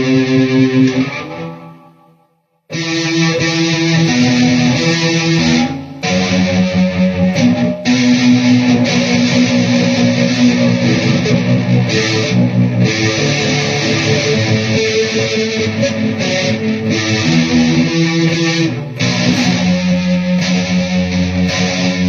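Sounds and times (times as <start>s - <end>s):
electric guitar chords: 0.0s - 22.0s.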